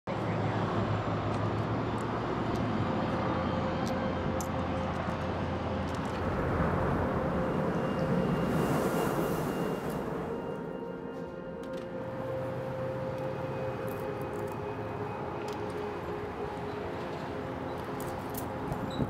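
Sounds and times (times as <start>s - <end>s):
traffic rumble: 0.1s - 19.0s.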